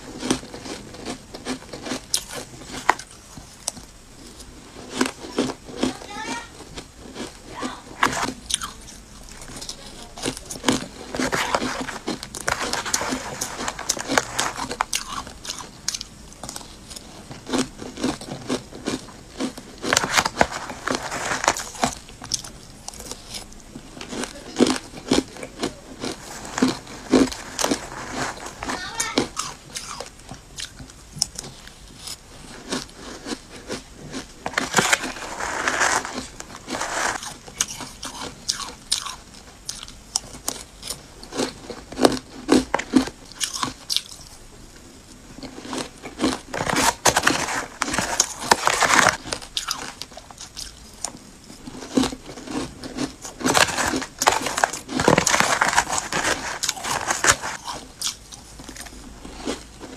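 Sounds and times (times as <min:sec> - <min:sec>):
ice crunching in mouth: 0:00.0 - 0:44.4, 0:45.4 - 0:59.9.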